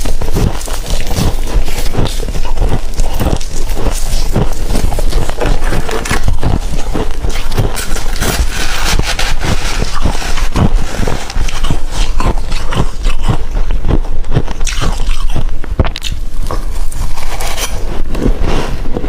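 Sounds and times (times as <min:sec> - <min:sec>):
frost being chewed: 0:00.0 - 0:19.0.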